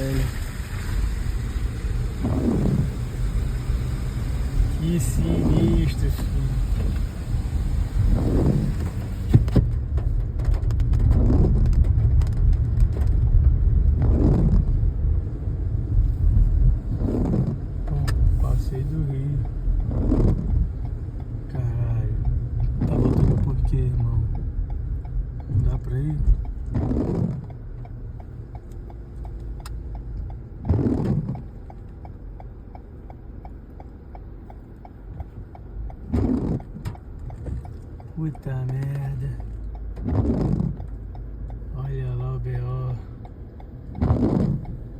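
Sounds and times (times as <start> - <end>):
car engine and tyres rumbling: 0.0 - 44.9.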